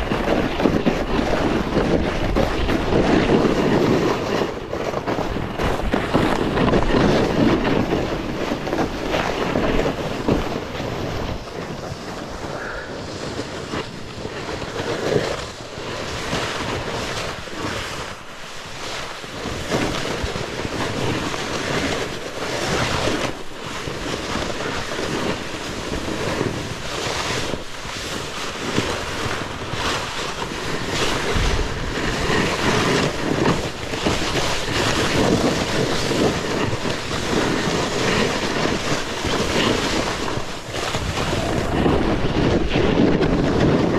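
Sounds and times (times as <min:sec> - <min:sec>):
snowboard scraping over snow: 0:00.0 - 0:43.9
wind buffeting microphone: 0:00.0 - 0:43.9.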